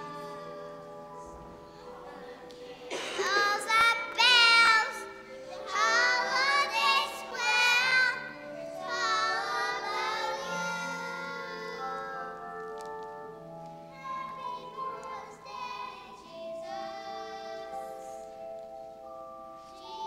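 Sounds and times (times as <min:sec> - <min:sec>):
children singing together: 0:00.0 - 0:12.4, 0:13.9 - 0:18.4
piano accompaniment: 0:00.0 - 0:20.0.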